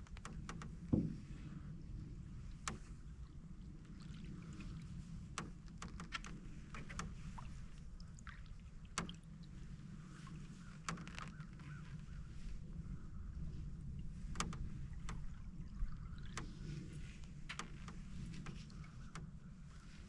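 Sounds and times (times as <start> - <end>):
low steady rumble: 0.0 - 20.0
paddle clicks and drips: 0.0 - 20.0.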